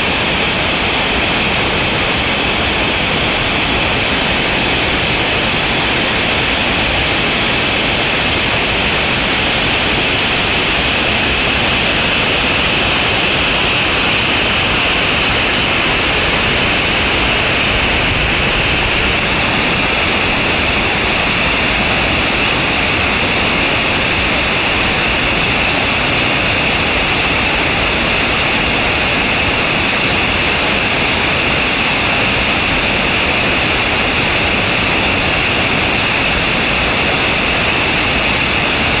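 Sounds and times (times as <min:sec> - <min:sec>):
rushing water roar: 0:00.0 - 0:39.0.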